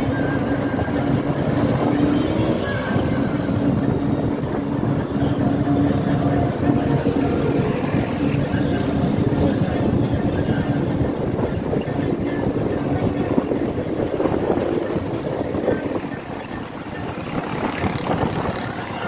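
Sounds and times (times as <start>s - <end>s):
bus engine drone: 0.0s - 19.0s
tyre and wind noise: 0.0s - 19.0s.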